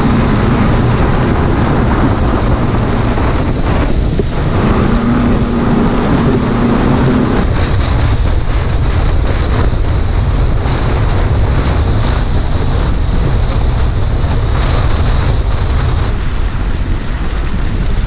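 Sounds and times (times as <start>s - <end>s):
hull rushing through waves: 0.0s - 18.0s
outboard motor: 0.0s - 18.0s
wind buffeting microphone: 0.0s - 18.0s.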